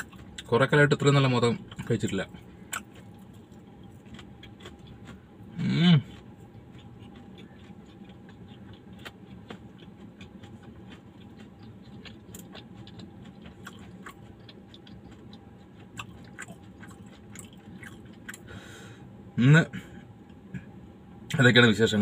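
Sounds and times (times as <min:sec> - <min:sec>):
person chewing: 0:00.0 - 0:00.6, 0:01.5 - 0:18.6
faint steady hum: 0:00.0 - 0:22.0.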